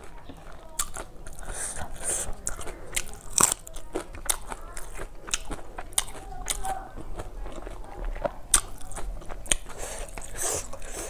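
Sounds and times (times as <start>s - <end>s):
wet chewing and crunches: 0.0s - 11.0s.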